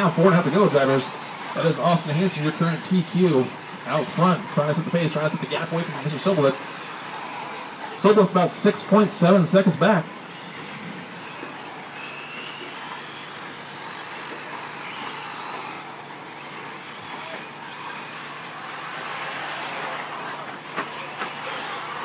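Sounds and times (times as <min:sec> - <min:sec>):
motor whine: 0:00.0 - 0:22.0
rc trucks racing on dirt: 0:00.0 - 0:22.0.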